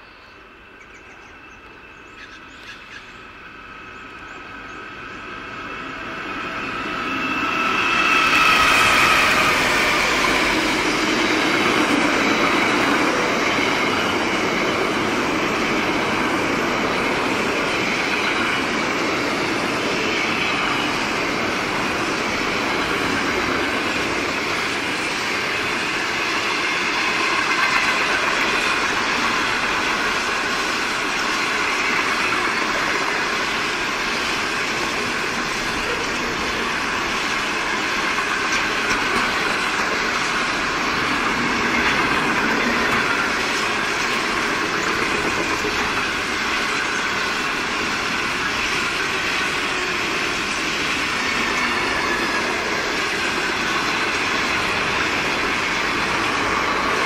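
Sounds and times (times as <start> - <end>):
locomotive engine whine: 3.3 - 57.0.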